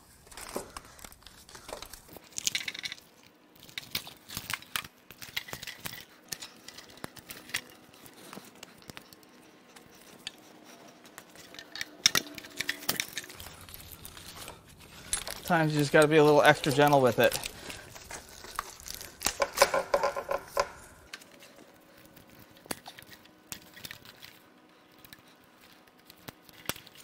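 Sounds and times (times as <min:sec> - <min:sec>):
wiring harness rustling and clicking: 0:00.0 - 0:27.0.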